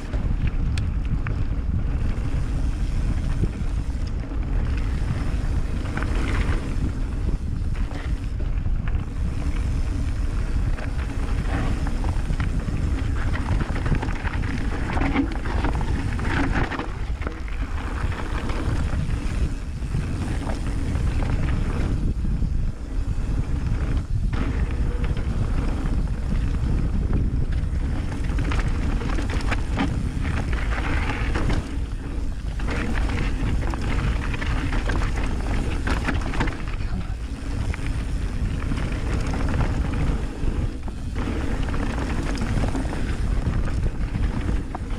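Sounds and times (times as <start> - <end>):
bike rattling: 0.0 - 44.9
bike tyres rolling on dirt: 0.0 - 44.9
wind buffeting microphone: 0.0 - 44.9.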